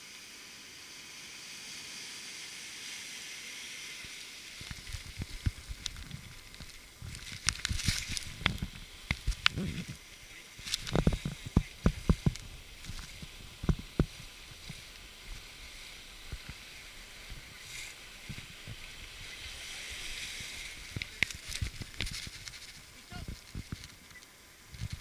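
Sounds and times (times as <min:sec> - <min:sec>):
surf and foaming water: 0:00.0 - 0:25.0.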